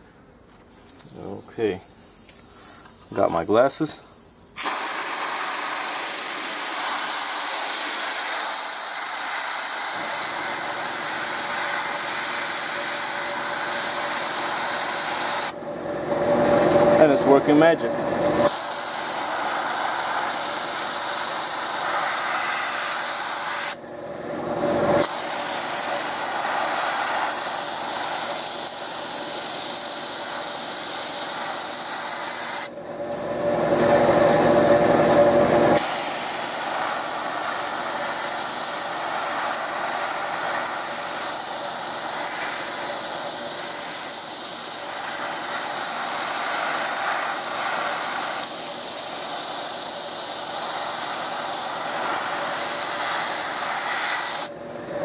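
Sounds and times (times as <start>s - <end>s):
sandblast gun hissing: 0.7s - 15.6s, 18.4s - 23.8s, 24.7s - 32.8s, 35.8s - 54.6s.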